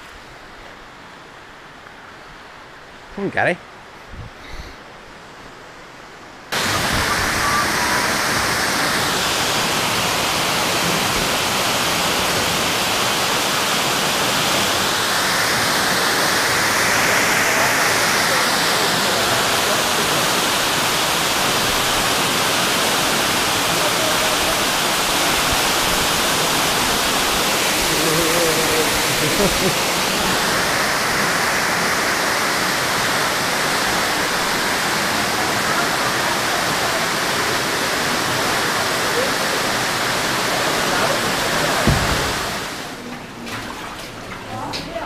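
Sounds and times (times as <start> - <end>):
waterfall rushing: 6.5 - 43.1.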